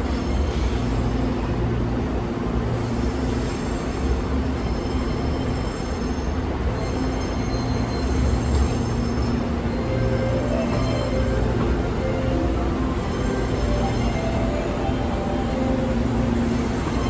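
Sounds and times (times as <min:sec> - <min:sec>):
subway train humming: 0:00.0 - 0:17.0.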